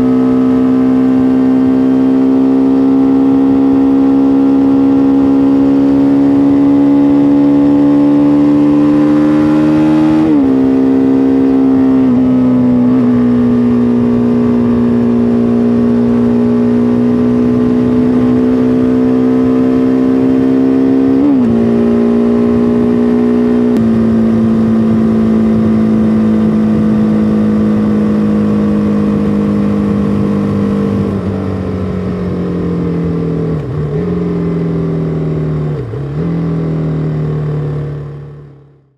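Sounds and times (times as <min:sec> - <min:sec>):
motorcycle engine running hard: 0:00.0 - 0:38.9.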